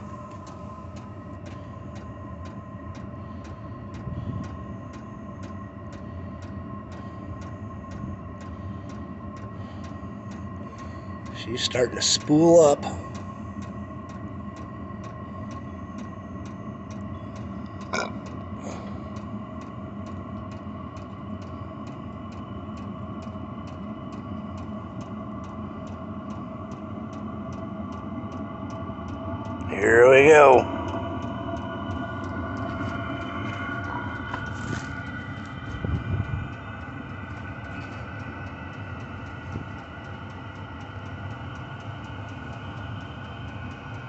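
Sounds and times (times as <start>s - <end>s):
fuel pump ticking: 0.0s - 44.0s
heater fan and burner hum: 0.0s - 44.0s.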